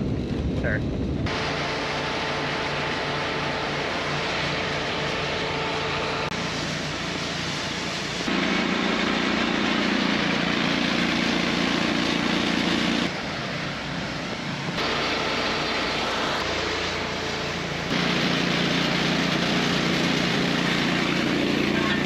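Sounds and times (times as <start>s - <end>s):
grain auger engine drone: 0.0s - 22.0s.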